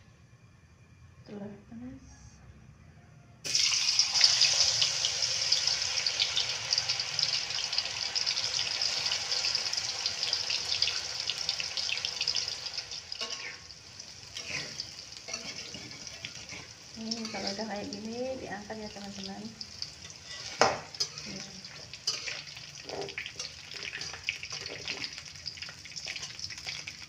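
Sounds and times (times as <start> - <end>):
tofu sizzling in hot oil: 3.5 - 27.0.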